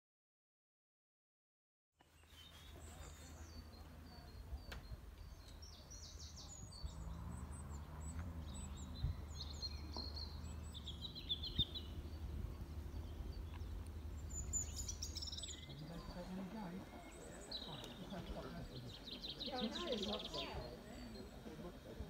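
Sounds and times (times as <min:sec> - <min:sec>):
birds chirping: 0:02.0 - 0:22.0.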